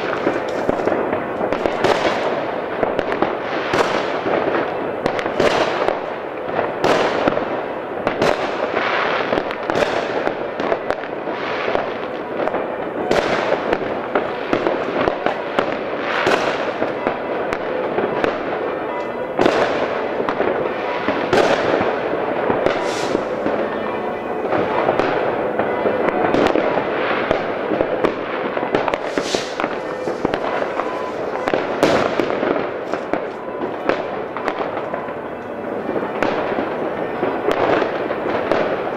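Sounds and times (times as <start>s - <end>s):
firecracker bangs: 0.0s - 38.9s
fireworks crackling: 0.0s - 38.9s.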